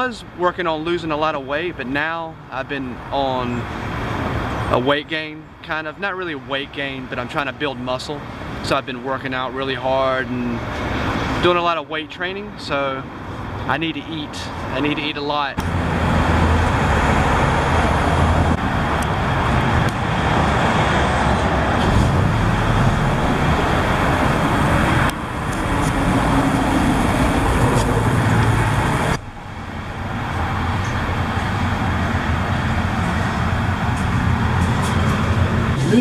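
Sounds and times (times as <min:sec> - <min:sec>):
passing cars: 0:02.0 - 0:05.3, 0:06.2 - 0:11.8, 0:12.8 - 0:36.0.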